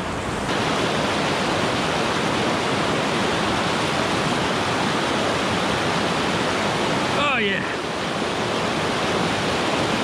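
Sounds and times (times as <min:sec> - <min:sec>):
creek rushing over boulders: 0:00.0 - 0:10.0.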